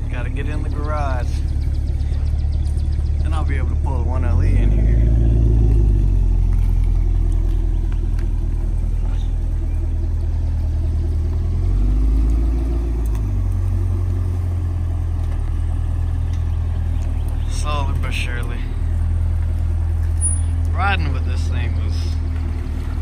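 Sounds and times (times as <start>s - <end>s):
car engine deep exhaust rumble: 0.0s - 23.0s.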